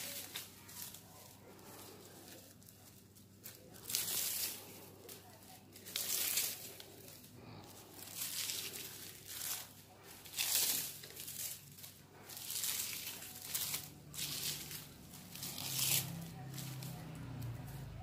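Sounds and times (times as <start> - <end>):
plastic strips rustling: 0.0 - 18.0.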